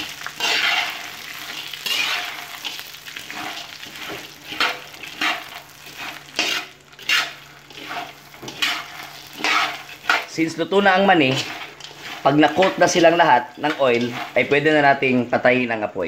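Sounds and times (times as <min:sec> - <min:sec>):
metal utensil scraping wok: 0:00.0 - 0:15.7
low sizzle of hot oil: 0:00.0 - 0:16.0.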